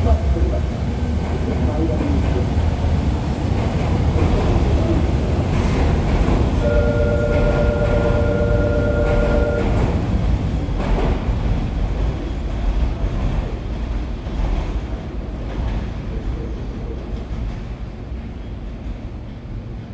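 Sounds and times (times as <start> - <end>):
electric train rumble and wheel noise: 0.0 - 19.9.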